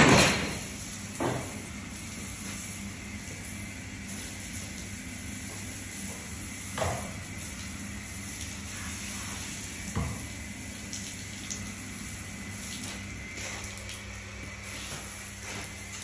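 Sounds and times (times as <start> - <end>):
hose spraying water: 0.0 - 16.0.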